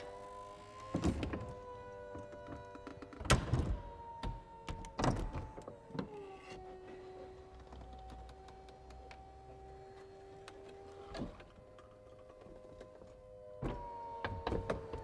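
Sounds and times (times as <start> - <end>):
hydraulic pump whining: 0.0 - 15.0.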